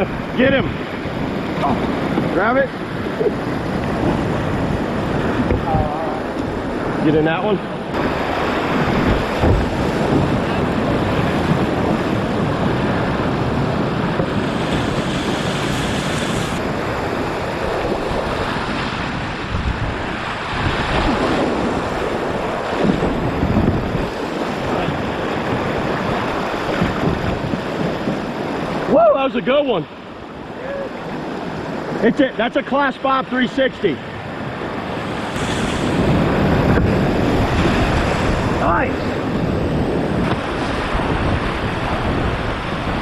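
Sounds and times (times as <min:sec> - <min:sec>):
wind on microphone: 0:00.0 - 0:32.1, 0:33.9 - 0:43.0
whitewater rapids rushing: 0:00.0 - 0:43.0.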